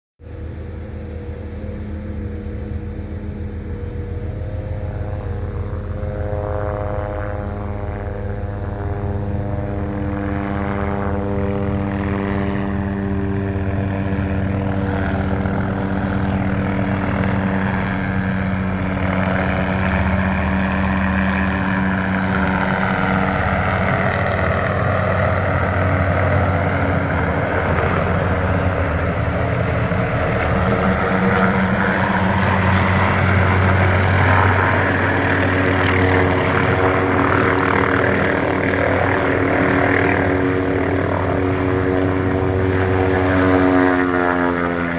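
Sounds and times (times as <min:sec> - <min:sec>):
helicopter rotor buzz: 0:00.2 - 0:44.9
turbine engine whine: 0:00.2 - 0:44.9.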